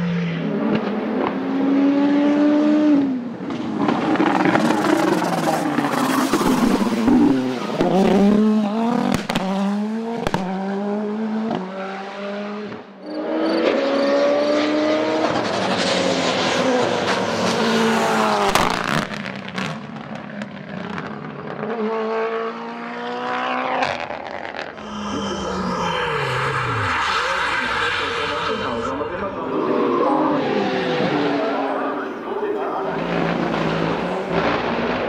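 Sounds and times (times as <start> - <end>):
racing car engine at full throttle: 0.0 - 35.0.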